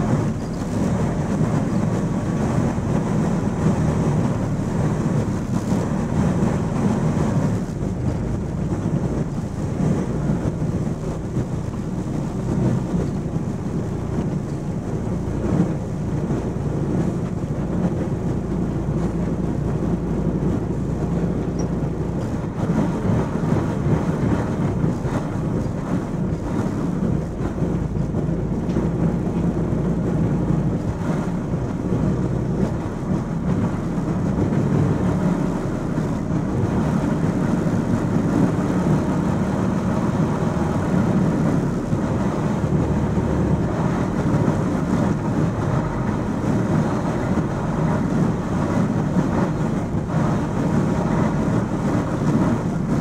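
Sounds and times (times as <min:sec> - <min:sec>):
diesel engine drone: 0:00.0 - 0:53.0
road noise: 0:00.0 - 0:53.0.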